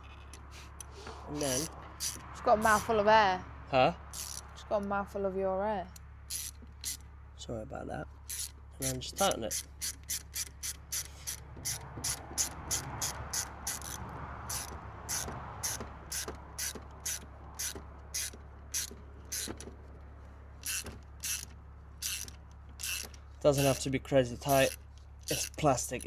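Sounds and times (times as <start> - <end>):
socket ratchet clicking: 0.0 - 2.8, 4.1 - 4.5, 5.9 - 7.0, 8.3 - 19.7, 20.6 - 26.0.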